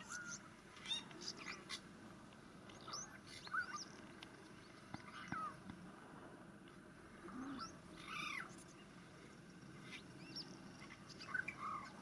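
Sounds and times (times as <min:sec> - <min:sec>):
wild birds calling faintly: 0:00.0 - 0:12.0.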